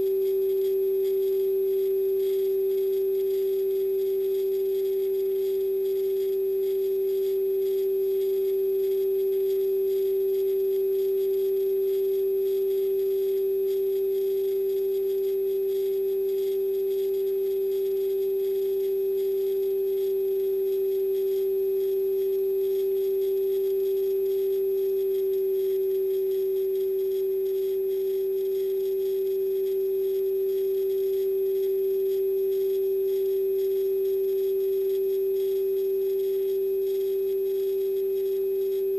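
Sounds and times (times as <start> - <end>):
steady electronic hum: 0.0 - 38.9.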